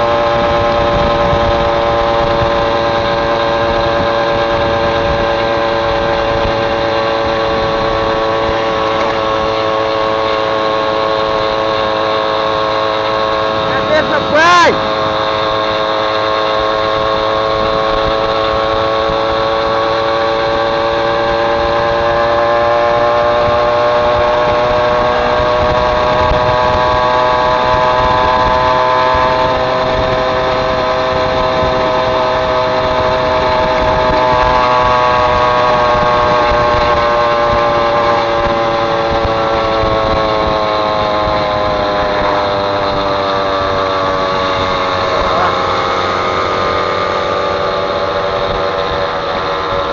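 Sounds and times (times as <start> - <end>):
moped two-stroke engine running: 0.0 - 49.9.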